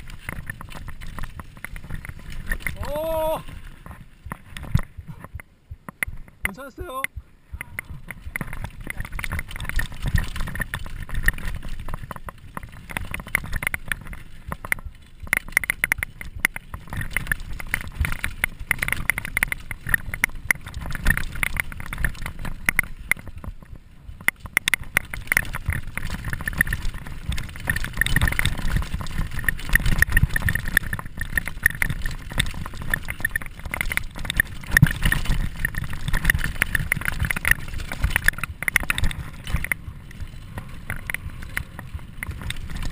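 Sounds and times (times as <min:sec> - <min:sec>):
bike rattling over bumpy ground: 0:00.0 - 0:42.9.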